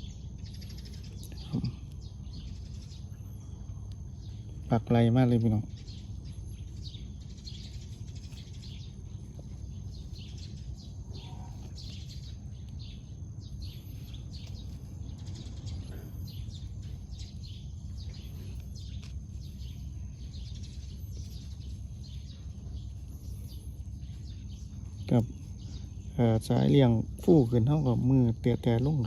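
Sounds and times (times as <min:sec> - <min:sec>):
small birds chirping: 0:00.0 - 0:29.0
steady low rumble: 0:00.0 - 0:29.0.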